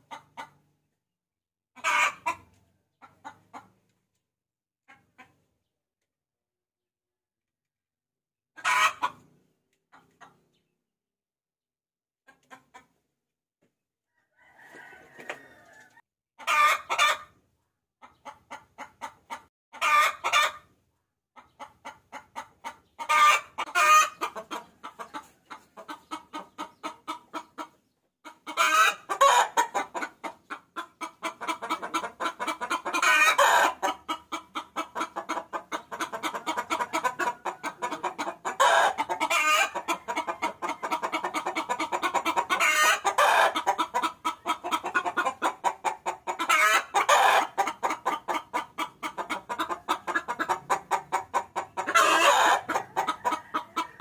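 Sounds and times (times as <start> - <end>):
hen cackling and clucking: 0.0 - 0.8, 1.8 - 4.0, 4.9 - 5.6, 8.6 - 10.6, 12.3 - 13.1, 14.1 - 54.0.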